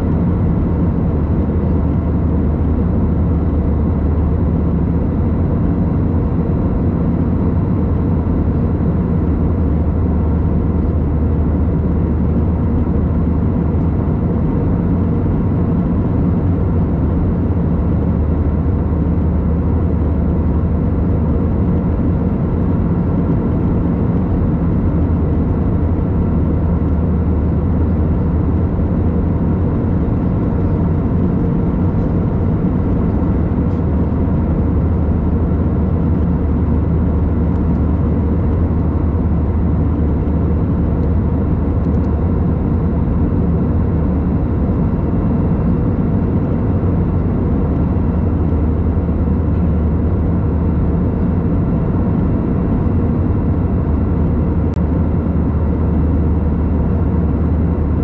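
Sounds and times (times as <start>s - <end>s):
airplane engine drone in cabin: 0.0s - 58.0s.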